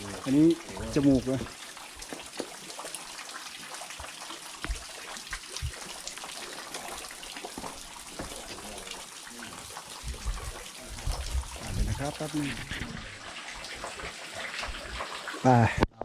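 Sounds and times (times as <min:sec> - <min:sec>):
running and dripping water: 0:00.0 - 0:16.0.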